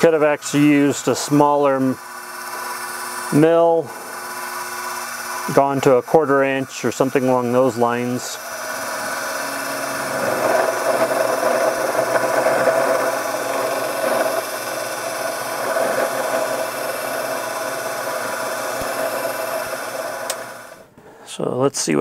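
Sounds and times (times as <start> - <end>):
milling machine cutting metal: 0.0 - 20.9.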